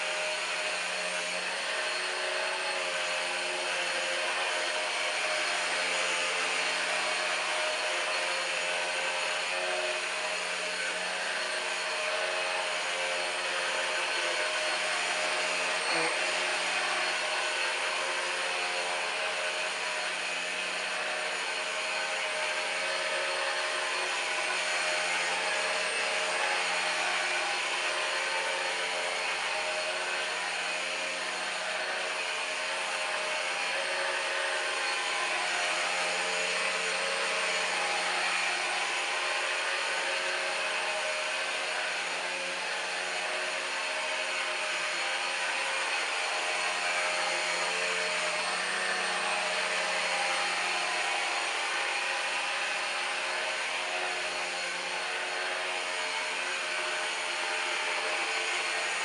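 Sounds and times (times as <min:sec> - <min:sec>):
vacuum cleaner whining: 0:00.0 - 0:59.0.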